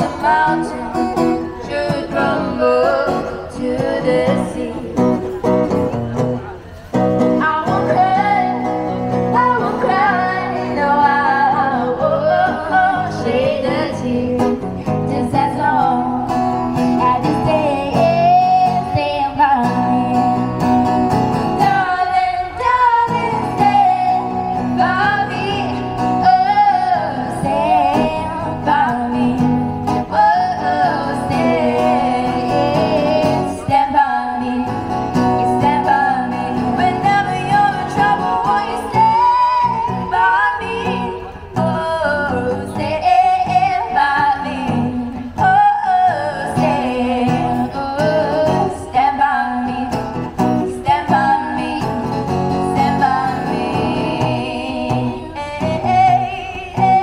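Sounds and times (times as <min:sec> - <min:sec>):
person singing: 0:00.0 - 0:05.4, 0:07.4 - 0:57.0
acoustic guitar: 0:00.0 - 0:57.0.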